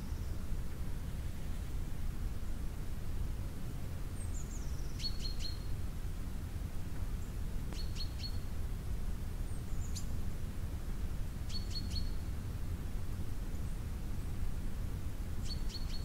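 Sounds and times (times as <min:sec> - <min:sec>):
songbirds chirping: 0:00.0 - 0:01.8, 0:03.0 - 0:06.0, 0:06.8 - 0:14.6, 0:15.2 - 0:16.0.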